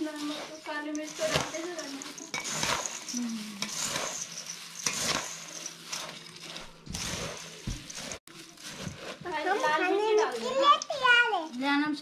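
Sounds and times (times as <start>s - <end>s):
spoon scraping steel bowl: 0.0s - 10.9s
puffed rice rustling: 0.0s - 11.9s.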